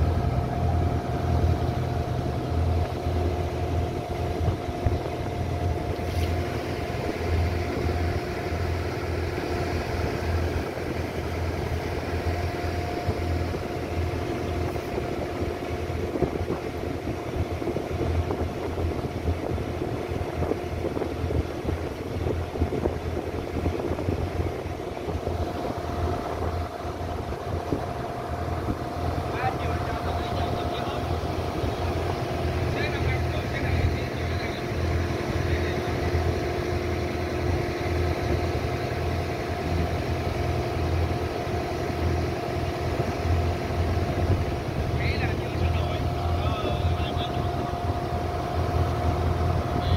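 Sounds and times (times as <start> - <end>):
boat engine throbbing: 0.0 - 49.9
wind and water hiss: 0.0 - 49.9.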